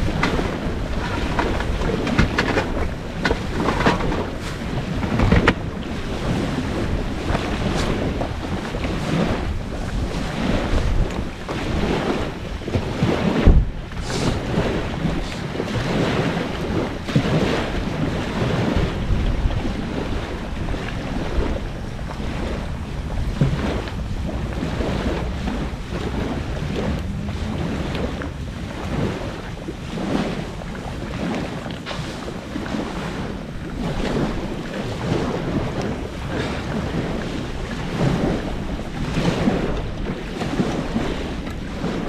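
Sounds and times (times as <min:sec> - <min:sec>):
wind blowing across microphone: 0:00.0 - 0:42.0.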